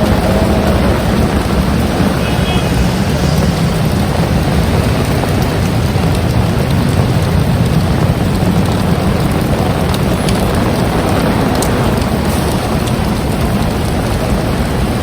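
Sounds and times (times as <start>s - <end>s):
heavy rain falling: 0.0s - 15.0s
raindrops ticking: 0.0s - 15.0s
wind buffeting microphone: 0.0s - 15.0s.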